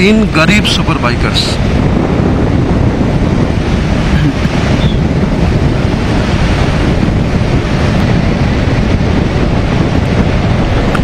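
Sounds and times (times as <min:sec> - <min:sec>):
motorcycle engine and road rumble: 0:00.0 - 0:11.0
wind buffeting a microphone: 0:00.0 - 0:11.0.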